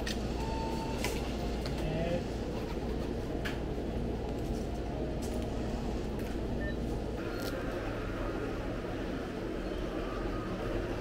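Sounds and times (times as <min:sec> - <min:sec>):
store background hum: 0:00.0 - 0:11.0
street noise: 0:00.0 - 0:11.0.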